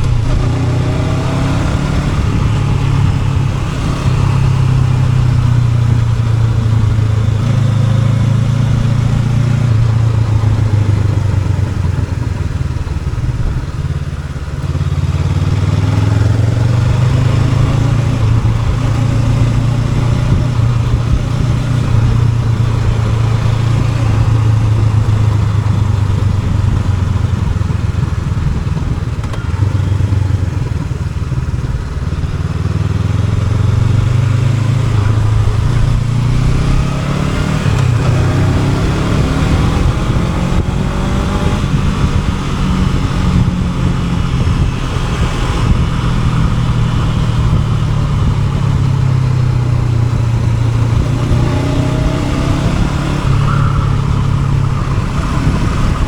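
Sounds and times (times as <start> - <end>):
motorcycle engine pulling: 0.0 - 56.0
wind noise: 0.0 - 56.0.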